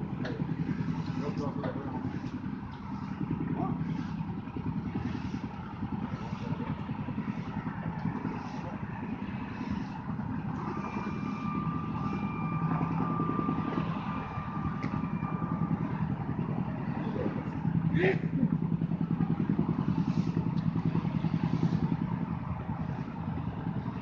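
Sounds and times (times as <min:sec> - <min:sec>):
heavy vehicle engine rumbling: 0:00.0 - 0:24.0
thin high whine: 0:00.0 - 0:24.0.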